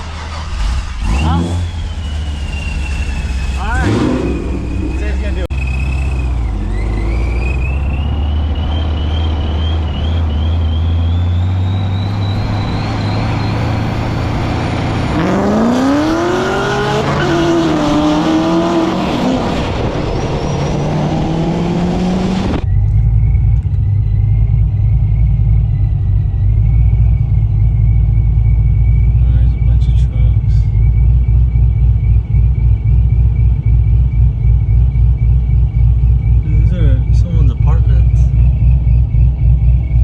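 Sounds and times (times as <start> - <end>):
car engine accelerating: 0.0 - 40.0
high whine: 0.0 - 40.0.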